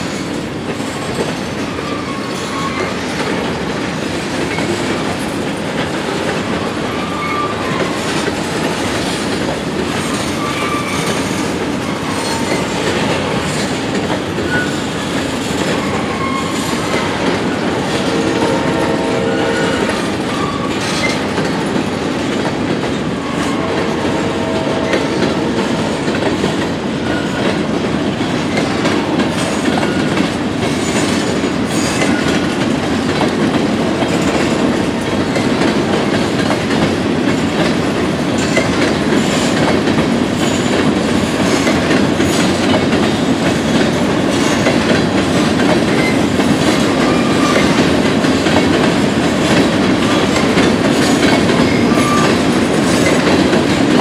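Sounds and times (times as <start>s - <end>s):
train wheels clickety-clack: 0.0s - 54.0s.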